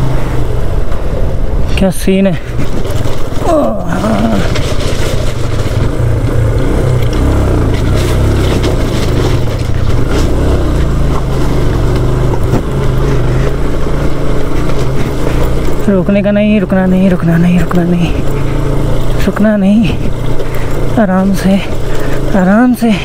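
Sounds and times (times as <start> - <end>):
motorcycle riding: 0.0 - 23.0.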